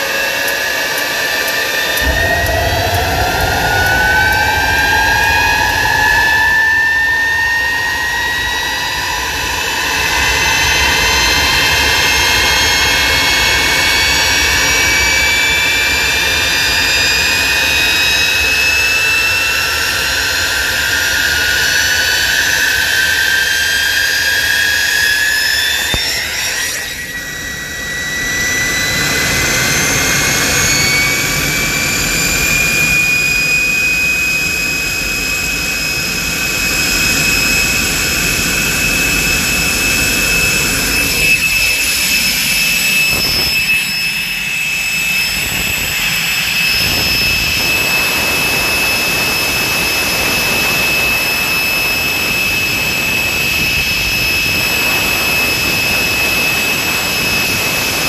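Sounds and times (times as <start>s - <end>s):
high turbine whine: 0.0s - 58.0s
jet engine roaring: 0.0s - 58.0s.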